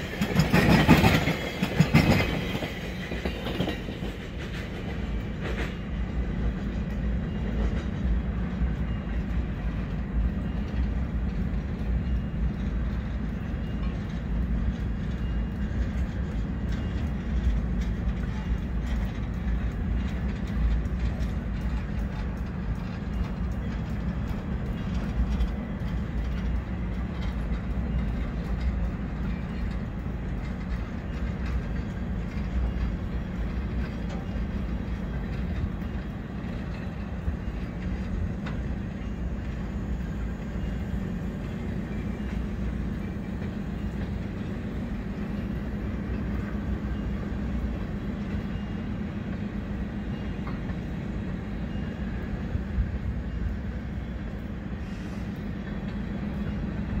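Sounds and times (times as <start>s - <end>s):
faint wheel clicks over rail joints: 0.0s - 57.0s
steel wheels rumbling on rails: 0.0s - 57.0s.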